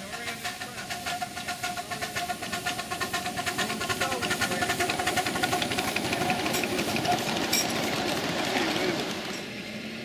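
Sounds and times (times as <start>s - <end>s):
wheel clatter: 0.0s - 9.6s
steam locomotive chuffing: 0.0s - 10.0s.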